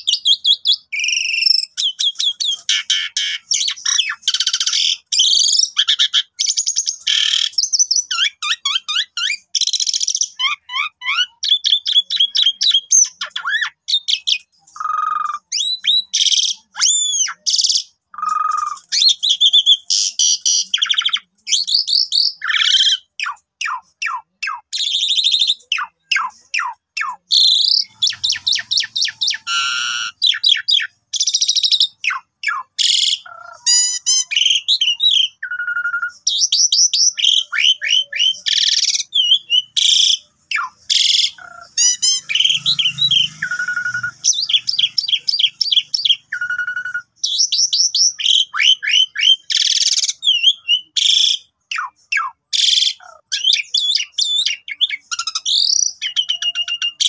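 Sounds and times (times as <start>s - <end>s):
starling singing: 0.0s - 57.0s.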